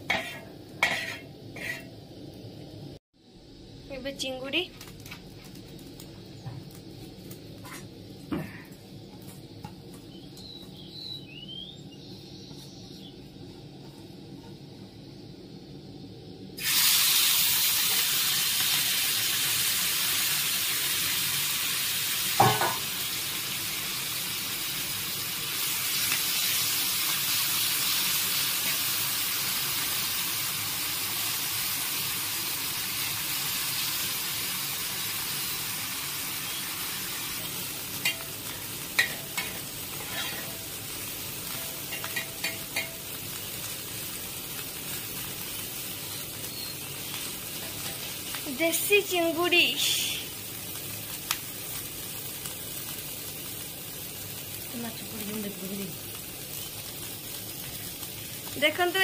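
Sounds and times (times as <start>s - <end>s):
prawns sizzling in hot oil: 0.0s - 59.0s.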